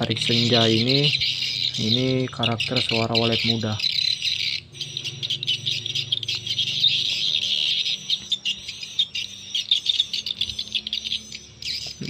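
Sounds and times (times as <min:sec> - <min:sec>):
recorded bird chirping and twittering: 0:00.0 - 0:12.0.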